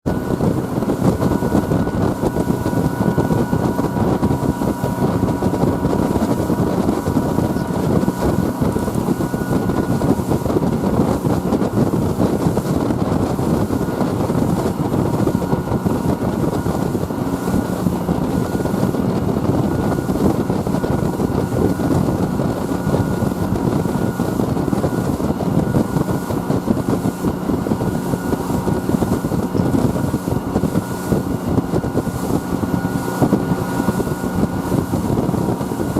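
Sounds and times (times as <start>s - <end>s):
boat engines droning: 0.1s - 35.9s
wind rushing: 0.1s - 35.9s.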